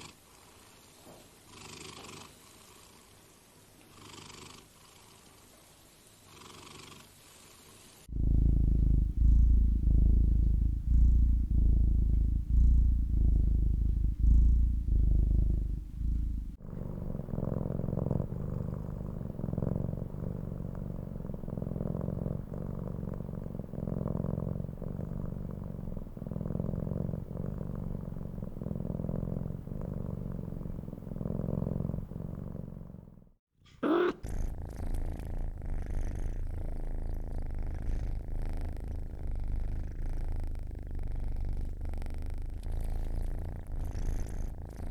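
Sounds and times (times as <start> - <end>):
cat purring: 0.0 - 3.1, 3.9 - 5.6, 6.3 - 44.9.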